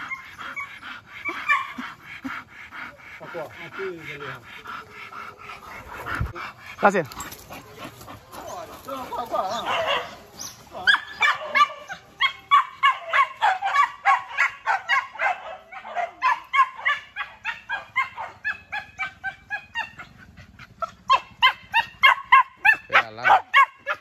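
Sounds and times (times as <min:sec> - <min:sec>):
dogs barking: 0:00.0 - 0:24.0.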